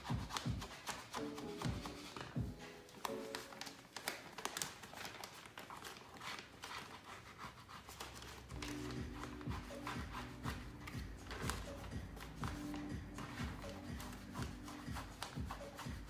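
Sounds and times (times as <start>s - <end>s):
tape peeling off vinyl: 0.0s - 16.0s.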